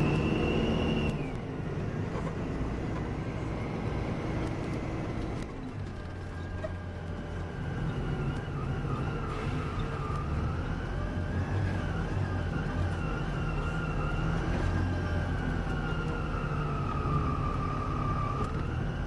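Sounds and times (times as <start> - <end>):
coach engine drone: 0.0 - 19.0.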